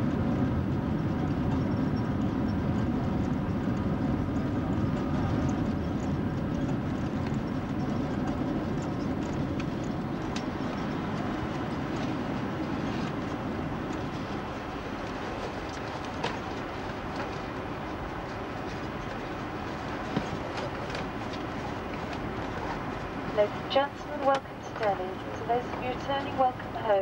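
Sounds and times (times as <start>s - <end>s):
aircraft engine hum: 0.0s - 27.0s
wheels rumbling on runway: 0.0s - 27.0s.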